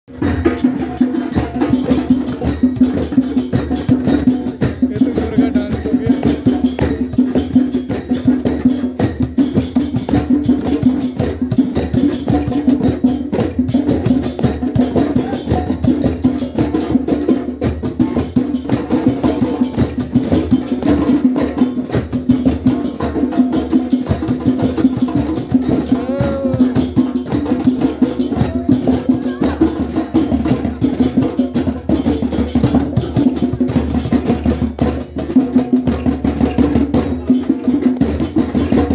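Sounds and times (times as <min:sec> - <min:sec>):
hand drums playing: 0:00.1 - 0:38.9.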